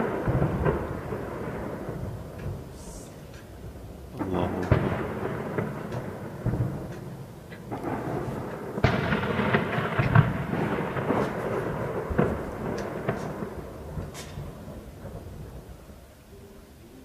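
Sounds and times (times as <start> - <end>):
distant gunfire with echoes: 0.0 - 2.7, 4.2 - 15.6.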